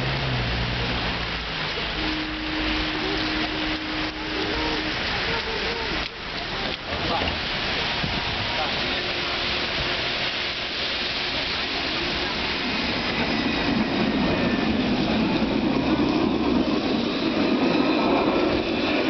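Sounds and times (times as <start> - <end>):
tram rumbling: 0.0 - 19.0.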